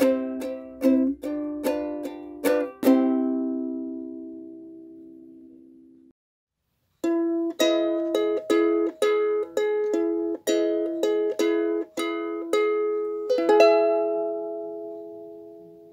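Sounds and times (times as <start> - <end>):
ukulele strumming chords: 0.0 - 6.1, 7.0 - 15.9.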